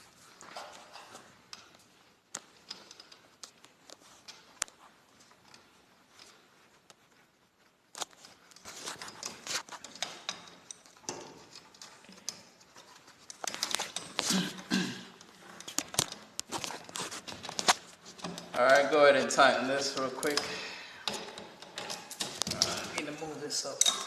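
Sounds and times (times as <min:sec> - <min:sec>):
metal hardware clinking and rattling: 0:00.4 - 0:06.6, 0:08.0 - 0:24.0.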